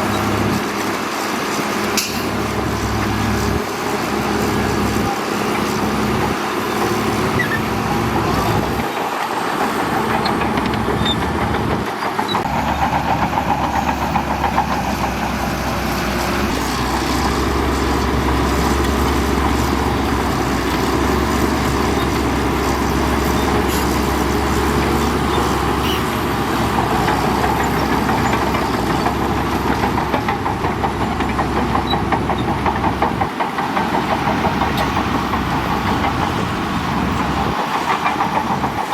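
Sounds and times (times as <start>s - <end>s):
heavy diesel machinery running: 0.0s - 38.9s.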